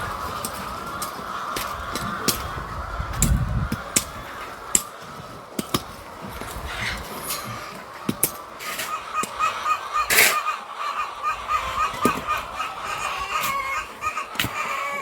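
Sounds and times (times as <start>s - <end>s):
poultry calling: 0.0s - 15.0s.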